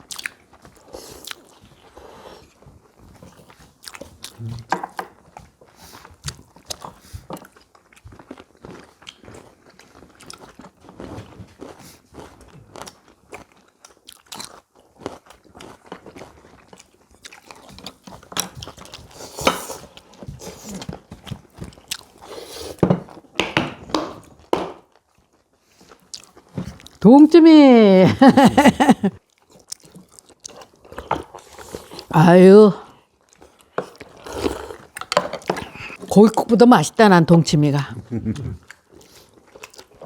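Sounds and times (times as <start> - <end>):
people chewing and crunching food: 0.0 - 36.6, 37.3 - 40.0.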